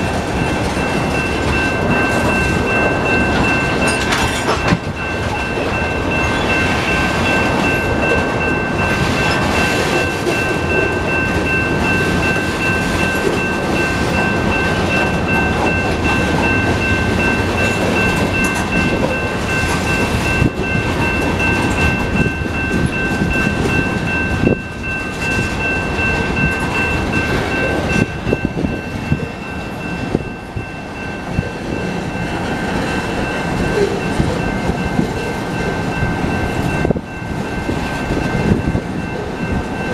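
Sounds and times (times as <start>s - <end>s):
freight train wheels rumbling: 0.0s - 39.9s
high ringing tone: 0.0s - 39.9s.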